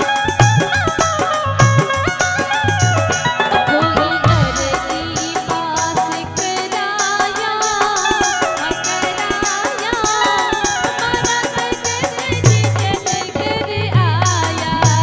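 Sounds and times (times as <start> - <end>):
percussion beat: 0.0 - 15.0
woman singing into a microphone: 1.8 - 15.0.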